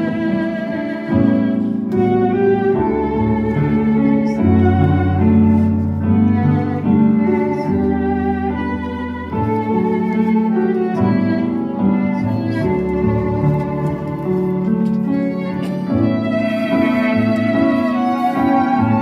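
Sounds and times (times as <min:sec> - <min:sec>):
wind and string ensemble melody: 0:00.0 - 0:19.0.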